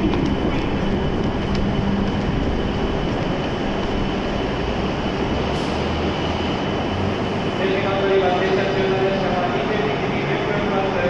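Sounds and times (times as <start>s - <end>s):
train equipment hum and whir: 0.0s - 11.0s.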